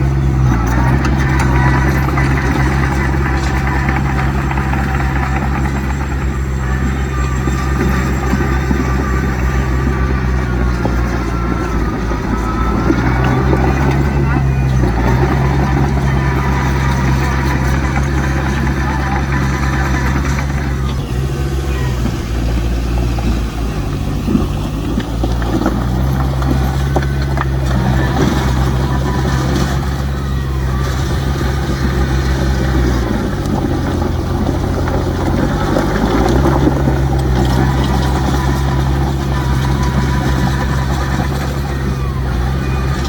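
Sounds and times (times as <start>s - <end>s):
heavy diesel engine running: 0.0s - 43.0s
knocks and clanks: 0.0s - 43.0s.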